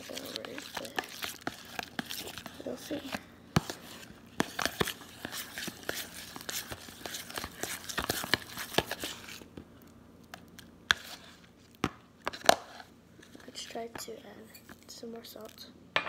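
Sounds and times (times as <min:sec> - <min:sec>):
spoon stirring slime in plastic bowl: 0:00.0 - 0:11.5, 0:12.2 - 0:15.6.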